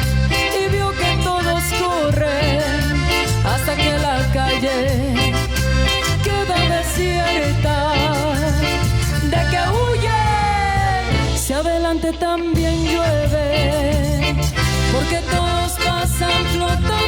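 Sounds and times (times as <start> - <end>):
live cumbia band playing: 0.0 - 17.0.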